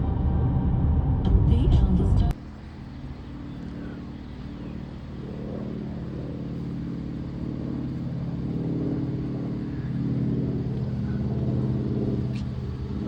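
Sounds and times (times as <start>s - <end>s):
aircraft engines humming: 0.0s - 13.0s
low rumble: 0.0s - 13.0s.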